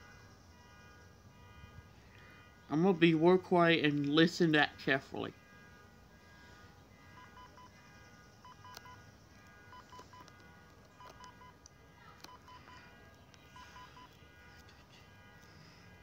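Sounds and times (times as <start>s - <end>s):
faint electronic alarm beeping: 0.0s - 16.0s.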